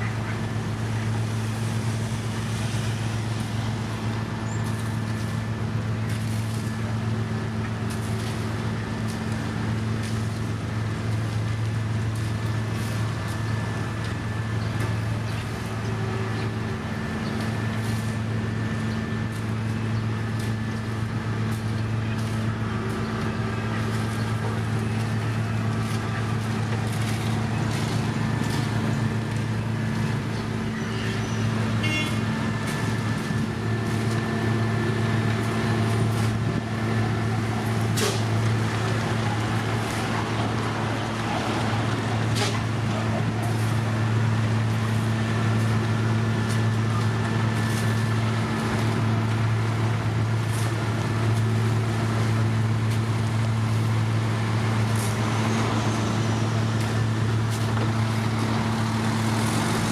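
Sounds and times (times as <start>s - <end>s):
construction machinery diesel engine: 0.0s - 59.9s.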